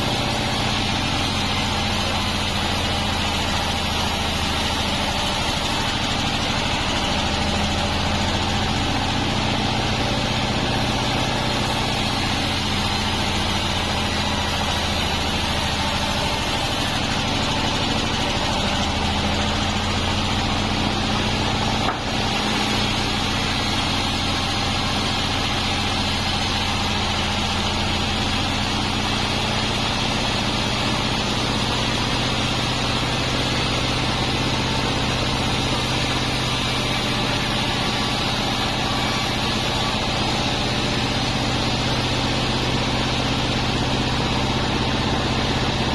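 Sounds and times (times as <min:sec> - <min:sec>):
band saw humming and whining: 0:00.0 - 0:45.9.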